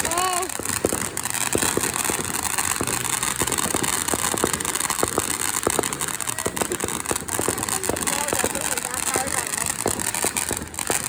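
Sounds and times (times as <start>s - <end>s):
crackles and pops of sparks: 0.0s - 11.0s
firework fountain hissing: 0.0s - 11.0s.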